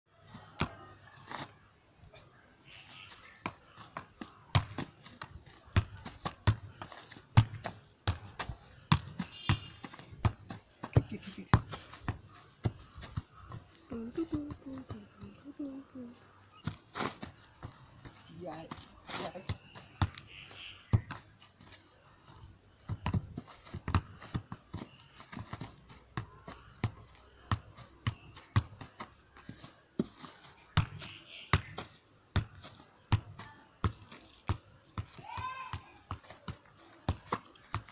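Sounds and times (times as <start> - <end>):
football kicked dull thuds: 3.4 - 15.4, 16.6 - 37.9.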